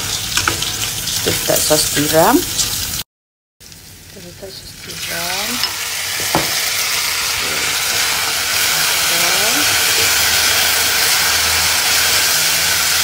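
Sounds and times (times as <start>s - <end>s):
food sizzling in a wok: 0.0s - 3.0s, 3.6s - 13.0s.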